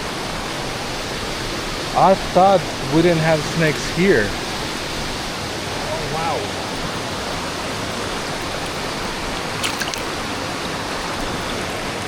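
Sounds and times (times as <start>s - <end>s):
waterfall and stream: 0.0s - 12.0s.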